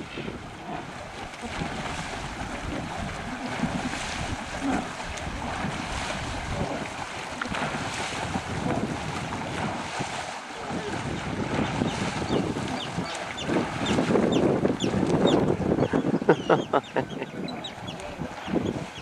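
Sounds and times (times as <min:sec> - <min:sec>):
rushing harbour water: 0:00.0 - 0:19.0
wind buffeting microphone: 0:00.0 - 0:19.0.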